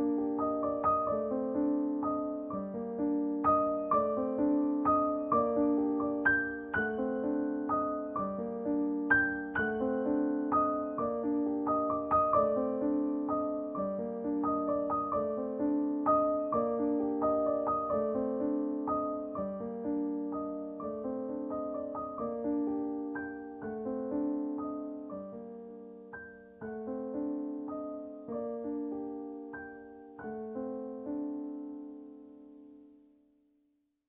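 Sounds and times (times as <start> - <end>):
piano music: 0.0 - 33.2.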